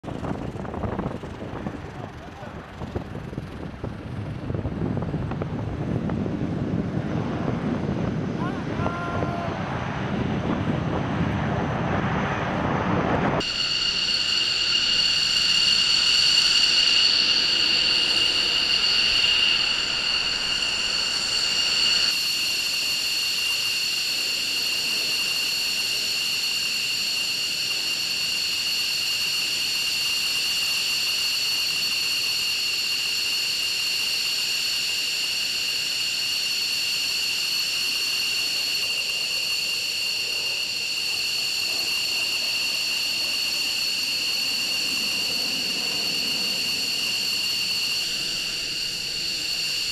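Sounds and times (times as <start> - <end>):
jet landing roar: 0.0 - 49.9
jet turbine whine idling: 0.0 - 49.9.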